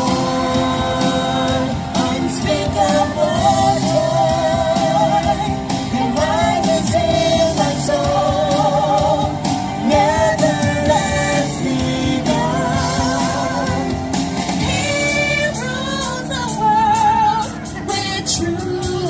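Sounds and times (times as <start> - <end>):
full band with steady beat: 0.0 - 19.0
person singing: 0.0 - 19.0.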